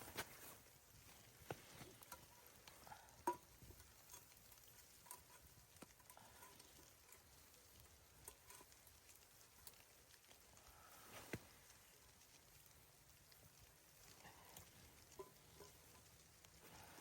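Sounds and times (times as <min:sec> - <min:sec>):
faint ticks and taps: 0:00.0 - 0:17.0.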